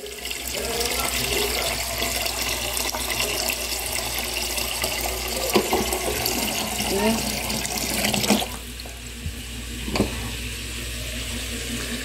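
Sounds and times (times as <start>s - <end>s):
tap water pouring into pot: 0.0s - 12.0s.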